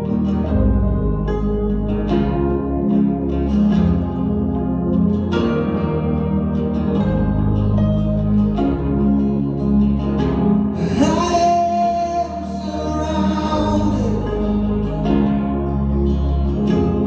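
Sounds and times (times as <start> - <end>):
acoustic guitar strumming: 0.0 - 17.0
bass guitar: 0.0 - 17.0
electric guitars: 0.0 - 17.0.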